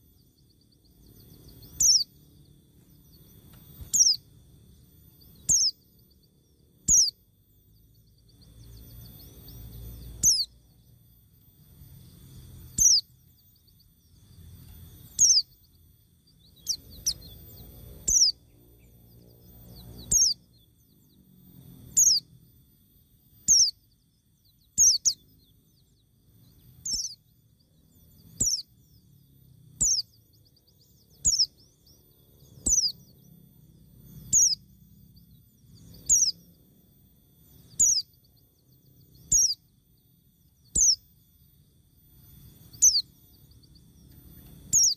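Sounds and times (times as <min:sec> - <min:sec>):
bird calling: 0:00.0 - 0:22.3, 0:23.3 - 0:29.1, 0:29.8 - 0:36.6, 0:37.4 - 0:41.5, 0:42.1 - 0:44.9
faint low rumble: 0:00.0 - 0:44.9.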